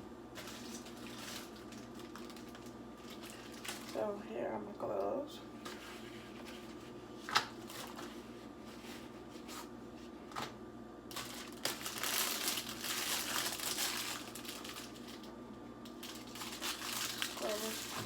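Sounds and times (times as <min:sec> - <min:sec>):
faint steady hum: 0:00.0 - 0:18.0
gloves crinkling and rustling: 0:00.3 - 0:04.2, 0:05.6 - 0:10.5, 0:11.1 - 0:18.0.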